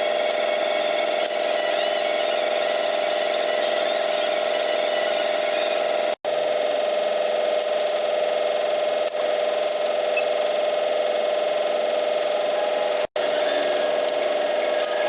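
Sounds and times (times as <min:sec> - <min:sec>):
workshop machine whirring: 0:00.0 - 0:15.0.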